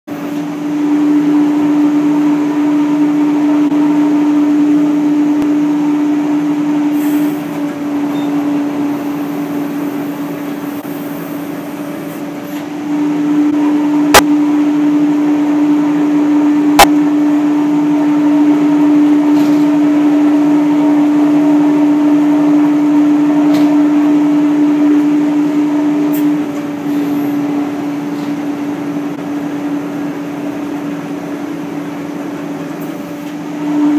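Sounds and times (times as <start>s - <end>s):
machine motor hum: 0.1s - 33.9s.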